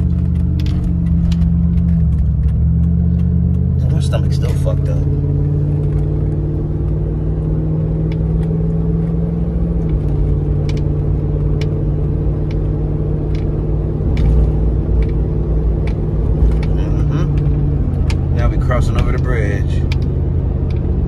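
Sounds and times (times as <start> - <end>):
engine and road drone: 0.0 - 21.0.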